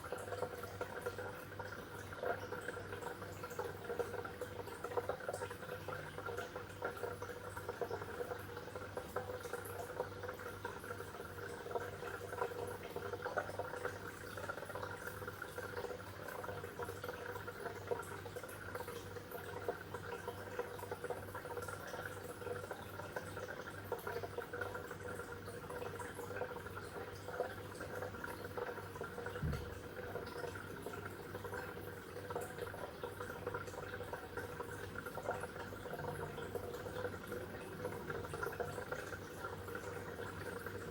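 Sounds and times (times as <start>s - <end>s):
aquarium water bubbling: 0.0s - 40.9s
low constant hum: 0.0s - 40.9s.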